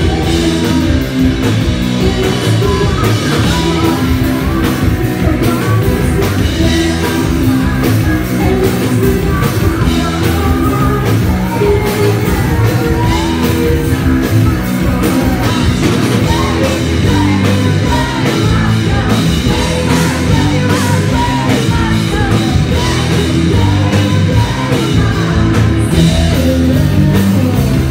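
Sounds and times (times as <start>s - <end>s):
driving drum beat: 0.0s - 27.9s
electric guitar: 0.0s - 27.9s
person singing: 0.0s - 27.9s.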